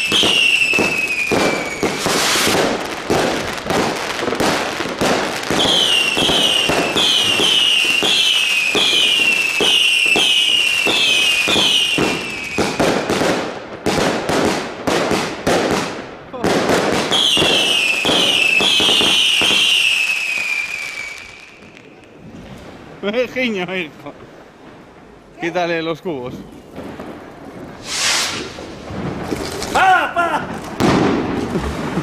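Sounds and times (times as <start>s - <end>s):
fireworks cracking and banging: 0.0s - 32.0s.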